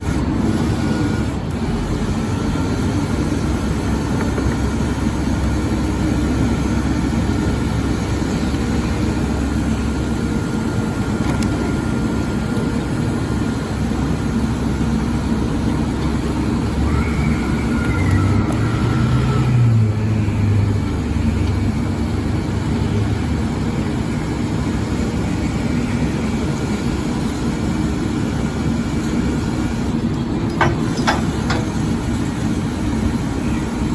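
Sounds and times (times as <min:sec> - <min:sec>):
garbage truck engine running: 0:00.0 - 0:33.9.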